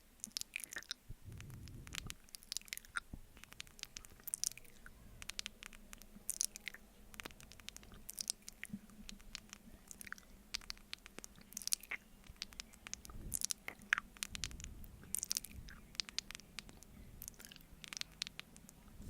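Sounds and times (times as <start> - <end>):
sticky mouth clicks and smacks: 0.2 - 18.9.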